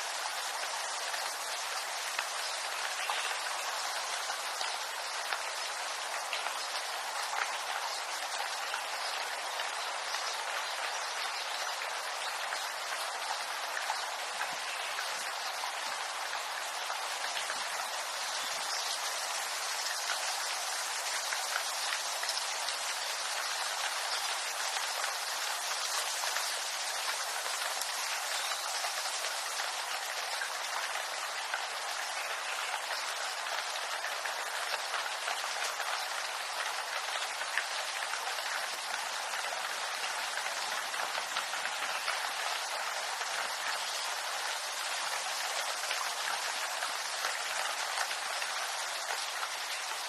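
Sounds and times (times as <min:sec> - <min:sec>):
rain pattering on leaves: 0:00.0 - 0:50.0.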